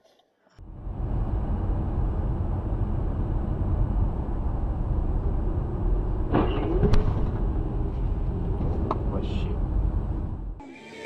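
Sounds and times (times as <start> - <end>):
car road and engine rumble: 0.6 - 10.6.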